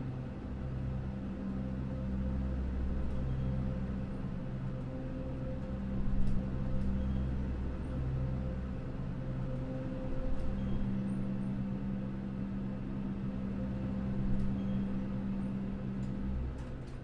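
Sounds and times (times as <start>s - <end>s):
low droning hum: 0.0s - 17.0s.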